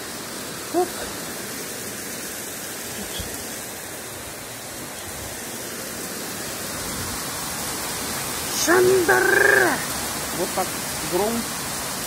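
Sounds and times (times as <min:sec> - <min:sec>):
heavy rain hiss: 0:00.0 - 0:12.0
water running off: 0:00.0 - 0:12.0.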